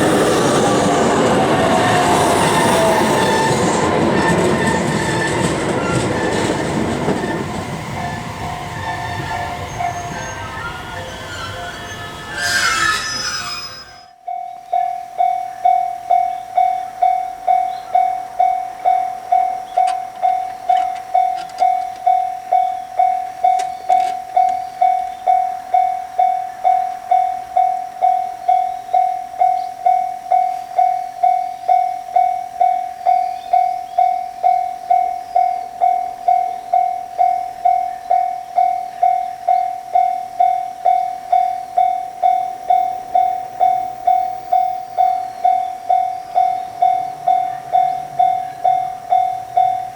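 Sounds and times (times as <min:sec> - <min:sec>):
railroad crossing bell ringing: 0:00.0 - 0:49.9.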